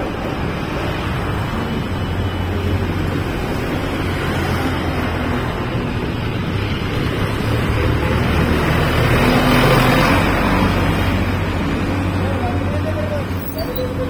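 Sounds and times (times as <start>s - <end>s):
heavy vehicle engine hum: 0.0s - 14.0s
street traffic passing: 0.0s - 14.0s.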